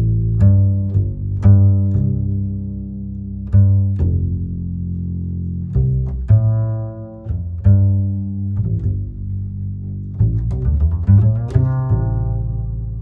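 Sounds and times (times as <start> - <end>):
bass line of held notes: 0.0 - 13.0.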